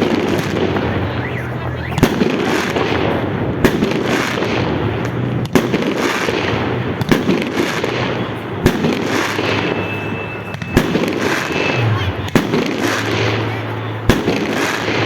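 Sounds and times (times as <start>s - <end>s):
continuous noisy background: 0.0s - 15.0s
loud firework bangs: 0.0s - 15.0s
small firework pops: 0.0s - 15.0s.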